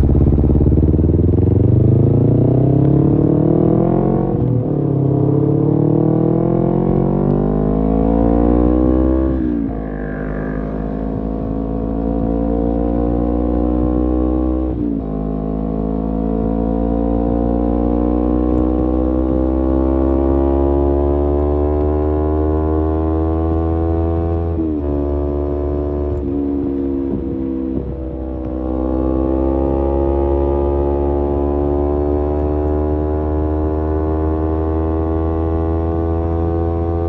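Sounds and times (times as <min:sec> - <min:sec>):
motorcycle engine shifting gears: 0:00.0 - 0:37.0.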